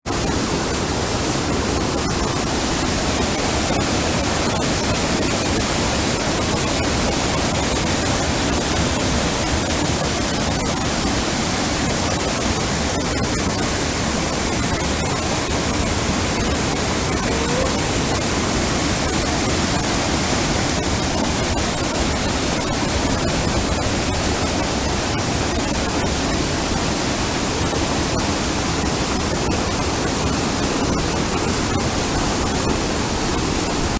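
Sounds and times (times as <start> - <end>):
steady rushing noise: 0.1 - 33.9.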